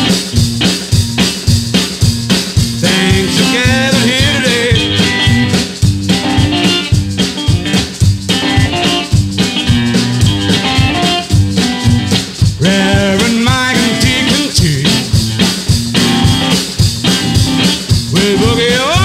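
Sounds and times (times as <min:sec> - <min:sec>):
bending guitar melody: 0:00.0 - 0:19.0
blues-rock song: 0:00.0 - 0:19.0.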